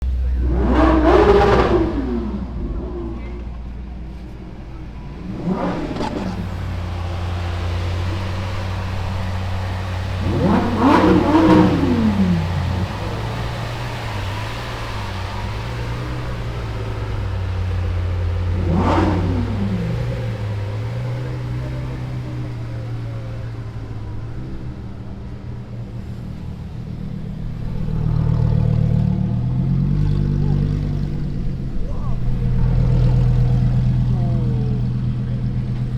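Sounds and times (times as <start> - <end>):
sports car engine revving: 0.0 - 35.9.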